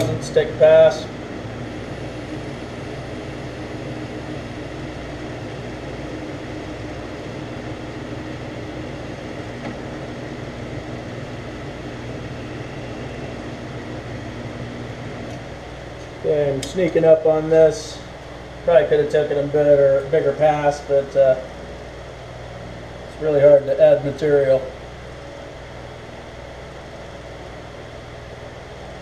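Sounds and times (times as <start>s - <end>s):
metal lathe running: 0.0s - 29.0s.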